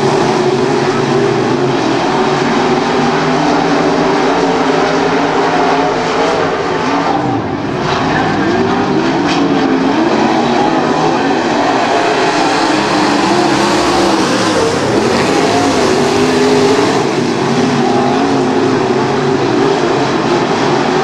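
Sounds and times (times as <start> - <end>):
race car engines running hard: 0.0 - 21.0.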